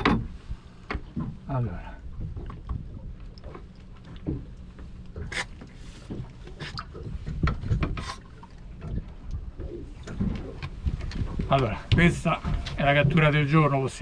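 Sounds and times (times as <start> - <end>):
water lapping at boat hull: 0.0 - 14.0.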